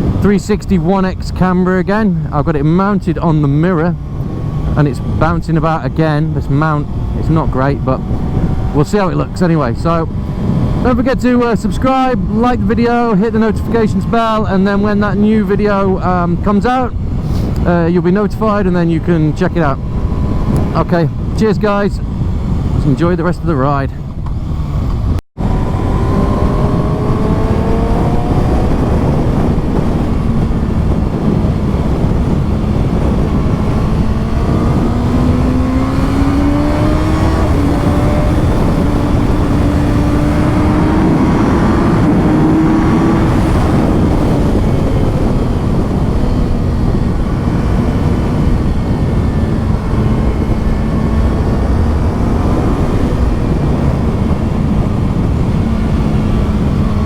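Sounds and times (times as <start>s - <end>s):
motorcycle engine revving: 0.0s - 16.3s, 16.9s - 21.4s, 23.9s - 57.0s
constant rushing noise: 0.0s - 57.0s.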